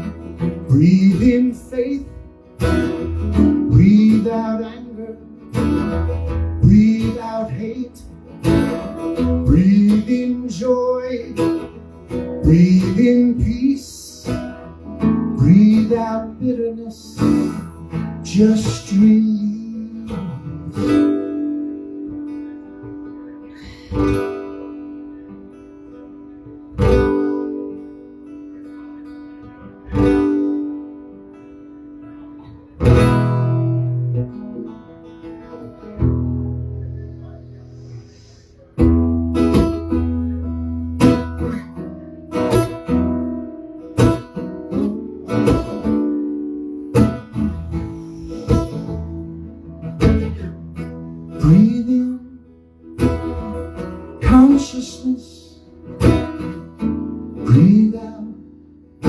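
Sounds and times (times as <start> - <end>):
acoustic guitar chords ringing: 0.0 - 59.0.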